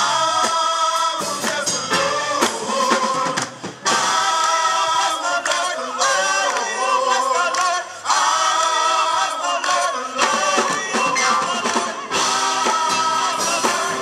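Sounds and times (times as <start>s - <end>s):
gospel choir singing: 0.0s - 14.0s.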